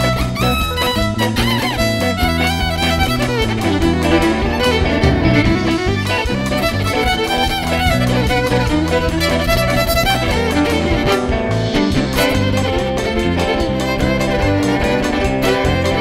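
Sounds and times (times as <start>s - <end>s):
bass guitar: 0.0s - 16.0s
electric guitar: 0.0s - 16.0s
fiddle melody: 0.0s - 16.0s.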